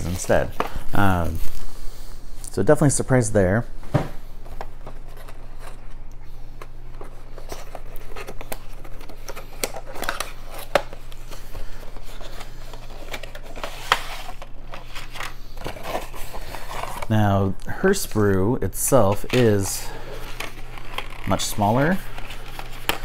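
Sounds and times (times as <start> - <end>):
card and plastic rustling: 0.0 - 1.8, 3.9 - 23.0.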